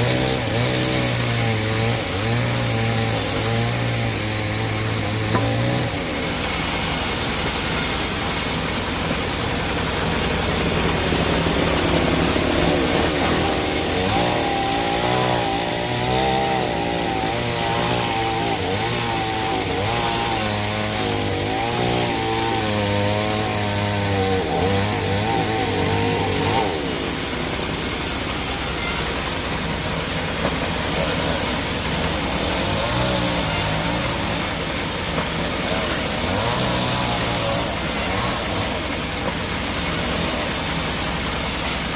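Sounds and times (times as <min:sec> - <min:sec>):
sawmill saw cutting log: 0:00.0 - 0:41.9.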